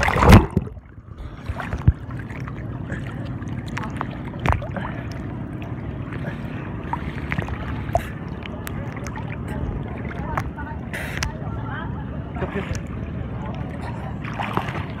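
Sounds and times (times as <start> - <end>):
sharp water splashes: 0.0 - 11.4, 12.4 - 15.0
boat engine running: 0.0 - 15.0.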